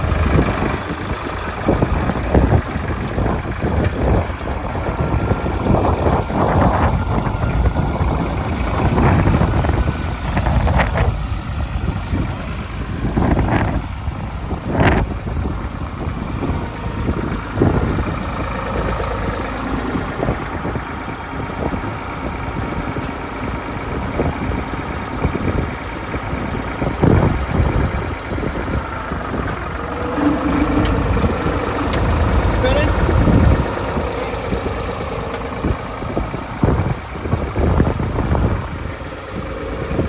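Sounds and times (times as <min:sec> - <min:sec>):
tractor diesel engine idling: 0:00.0 - 0:40.0.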